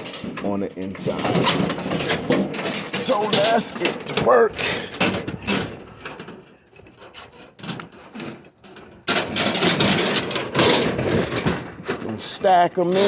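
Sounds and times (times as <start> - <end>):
metal fixtures scraping together: 0.0 - 13.0.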